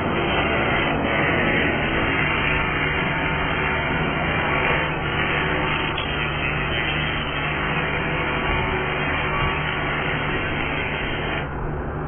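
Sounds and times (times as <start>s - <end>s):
angle grinder grinding steel: 0.0s - 11.5s
constant hum: 0.0s - 12.0s.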